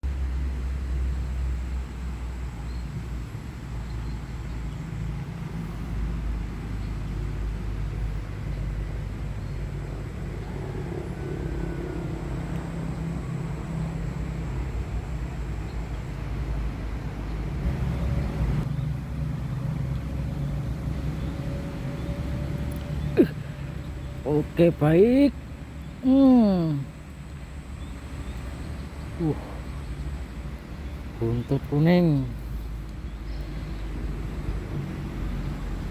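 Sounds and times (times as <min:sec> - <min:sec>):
low outdoor rumble: 0:00.0 - 0:35.9.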